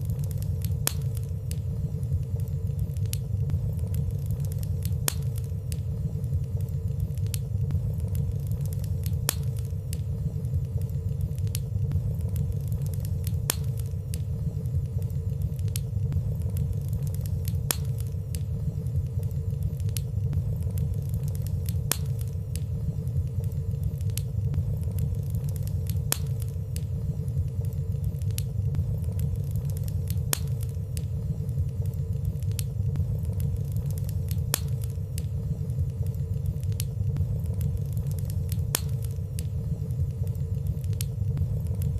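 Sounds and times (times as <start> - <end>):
faint steady hum: 0.0 - 41.9
fire crackling: 0.0 - 41.9
low rumble of flames: 0.0 - 41.9.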